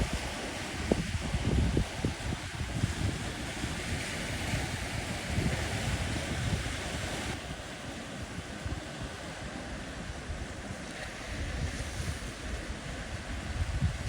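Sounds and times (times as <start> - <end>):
sea waves rushing: 0.0 - 14.0
wind buffeting microphone: 0.0 - 14.0.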